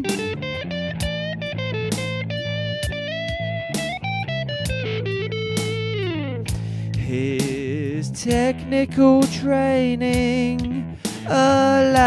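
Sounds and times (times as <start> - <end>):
slow blues guitar: 0.0 - 12.0.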